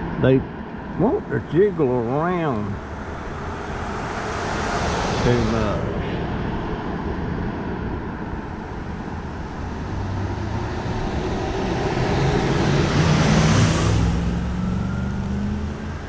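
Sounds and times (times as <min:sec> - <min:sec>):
vehicle engine and tyre noise: 0:00.0 - 0:16.0.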